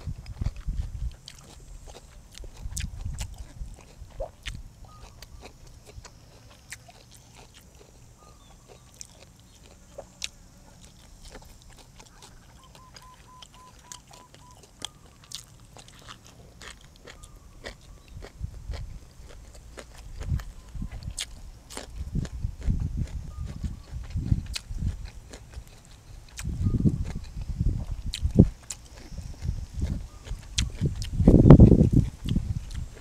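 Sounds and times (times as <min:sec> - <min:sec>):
person chewing and crunching food: 0:00.0 - 0:33.0.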